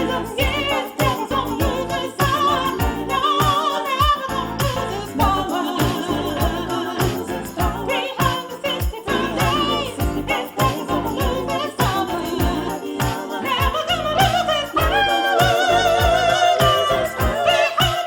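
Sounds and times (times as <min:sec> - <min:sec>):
jingling percussion: 0:00.0 - 0:18.0
person singing: 0:00.0 - 0:18.0
steady beat: 0:00.0 - 0:18.0.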